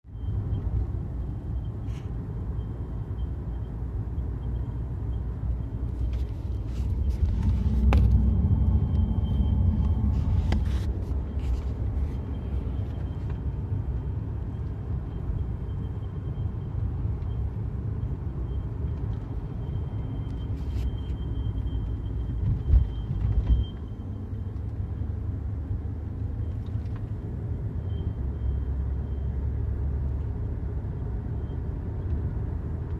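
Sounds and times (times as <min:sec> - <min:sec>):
car low rumble: 0:00.0 - 0:32.9.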